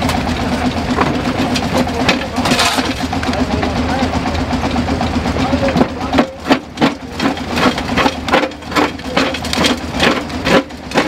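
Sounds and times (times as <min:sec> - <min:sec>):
stationary engine exhaust puffing: 0:00.0 - 0:11.0.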